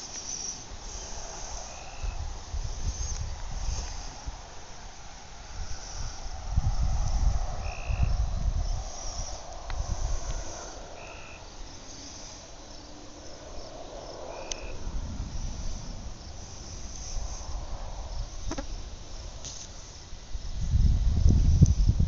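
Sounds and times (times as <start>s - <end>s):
insects chirring: 0.0s - 22.0s
low rumble: 0.7s - 22.0s.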